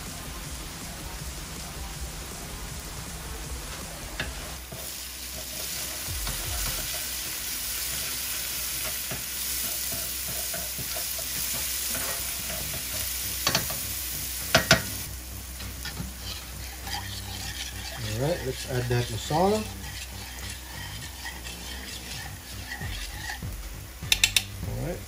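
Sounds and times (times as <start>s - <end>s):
food sizzling in hot oil: 0.0s - 25.0s
spoon stirring in pan: 4.2s - 24.5s.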